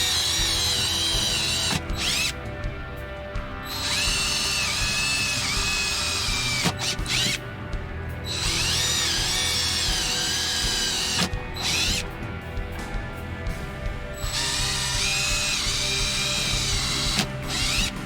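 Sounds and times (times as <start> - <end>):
power drill boring into wood: 0.0 - 2.8, 3.6 - 7.5, 8.2 - 12.6, 14.2 - 18.0.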